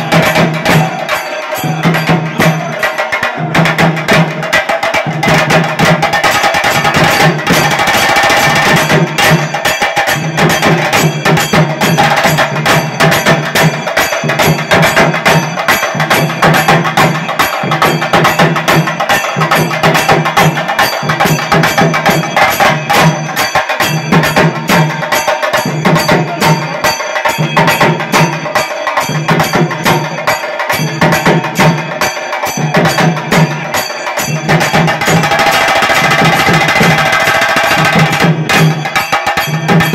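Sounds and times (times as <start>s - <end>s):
drum ensemble fast rhythm: 0.0s - 39.9s.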